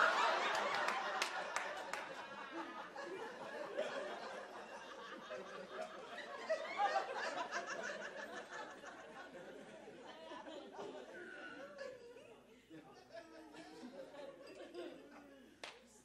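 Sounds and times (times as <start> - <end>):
audience laughing: 0.0 - 15.5.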